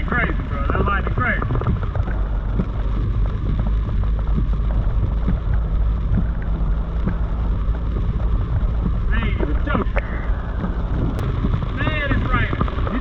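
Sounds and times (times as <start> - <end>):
rain ticking on car body: 0.0 - 13.0
vehicle engine and road rumble: 0.0 - 13.0.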